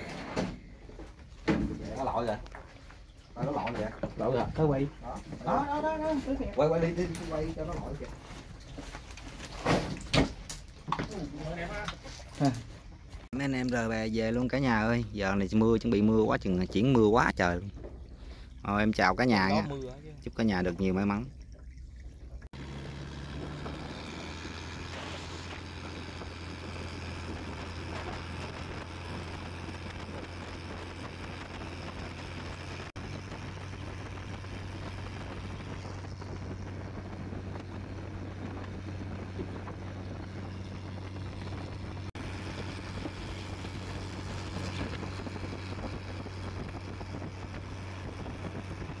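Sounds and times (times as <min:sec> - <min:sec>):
water noise: 0:00.0 - 0:49.0
wind: 0:00.0 - 0:49.0
boat engine droning: 0:02.0 - 0:49.0.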